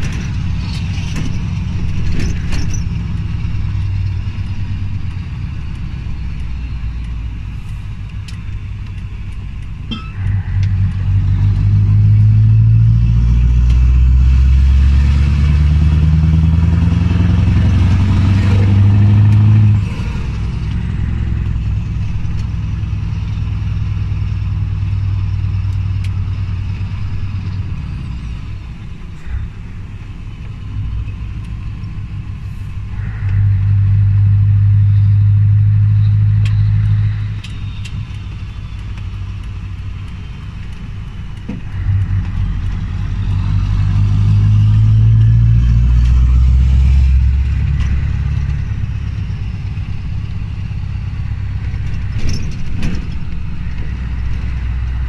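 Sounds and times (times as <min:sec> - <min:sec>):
diesel engine drone from cab: 0:00.0 - 0:55.0.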